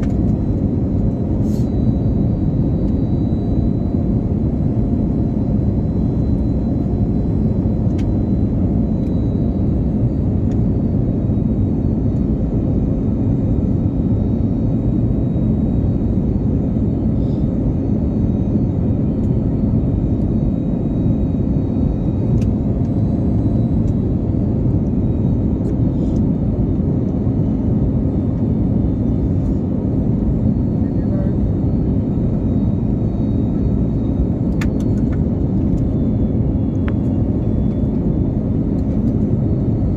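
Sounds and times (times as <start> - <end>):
airliner engines rumbling: 0.0 - 39.9.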